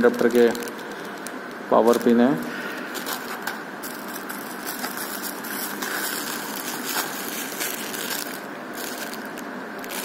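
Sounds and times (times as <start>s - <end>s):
plastic packaging rustling: 0.0s - 10.0s
steady background hiss: 0.0s - 10.0s.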